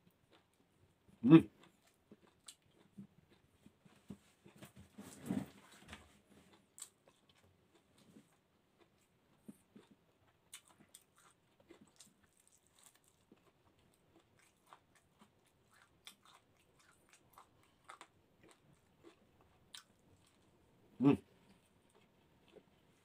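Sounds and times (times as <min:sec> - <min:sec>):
person chewing: 0:00.0 - 0:04.6, 0:06.4 - 0:20.5, 0:21.3 - 0:23.0.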